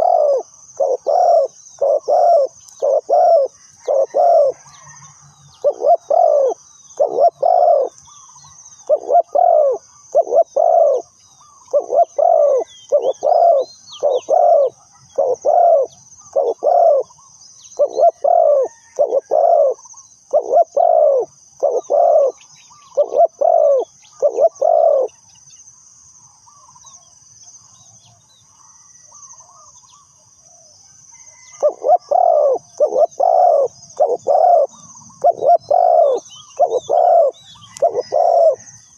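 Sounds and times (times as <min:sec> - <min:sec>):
dove cooing: 0:00.0 - 0:05.0, 0:05.6 - 0:25.2, 0:31.3 - 0:38.9.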